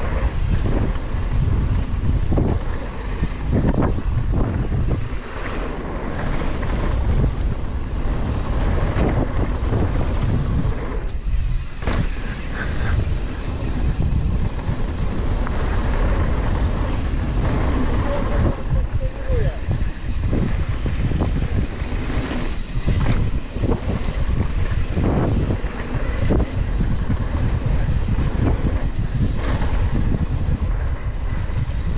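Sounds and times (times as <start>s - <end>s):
bike rattling over bumps: 0.0s - 31.9s
tyres rumbling on gravel: 0.0s - 31.9s
wind buffeting microphone: 0.0s - 31.9s.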